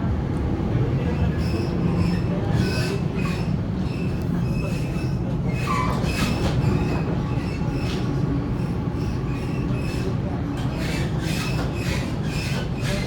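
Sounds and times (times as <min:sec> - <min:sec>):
train wheel squeals: 0:01.1 - 0:13.0.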